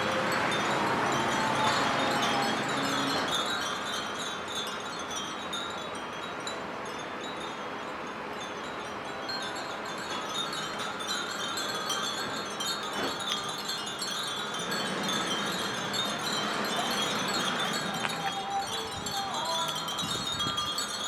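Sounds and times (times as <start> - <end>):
wind chimes tinkling: 0.0 - 21.0.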